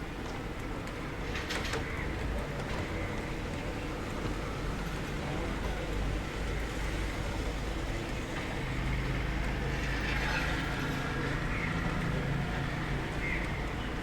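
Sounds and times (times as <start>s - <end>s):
muffled rainfall: 0.0s - 14.0s.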